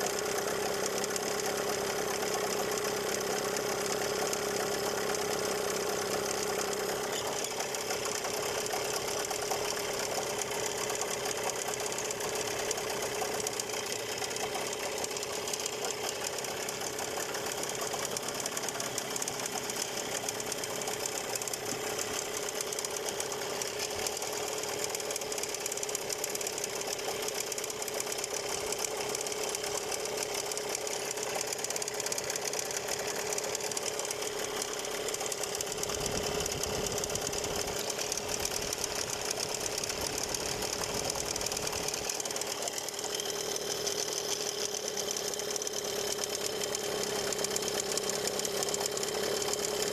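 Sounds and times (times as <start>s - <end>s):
engine rattle: 0.0s - 49.9s
outboard motor running: 0.0s - 49.9s.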